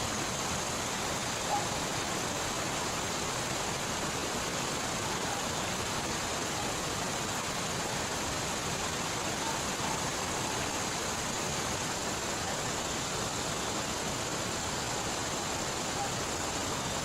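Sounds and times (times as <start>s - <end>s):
heavy rain: 0.0s - 17.0s
river water flowing: 0.0s - 17.0s.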